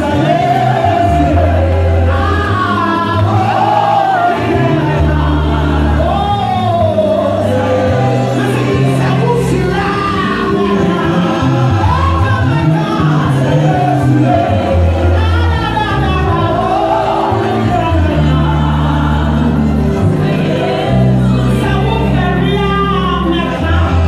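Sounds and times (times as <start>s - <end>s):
amplified backing music with bass: 0.0s - 24.0s.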